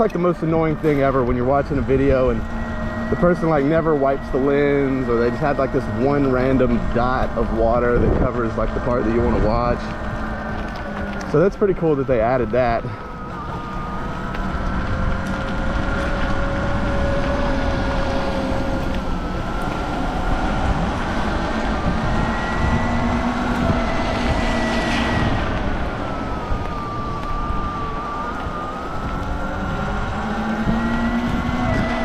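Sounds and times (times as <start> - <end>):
electric motor whine: 0.0 - 32.0
wind and road noise: 0.0 - 32.0.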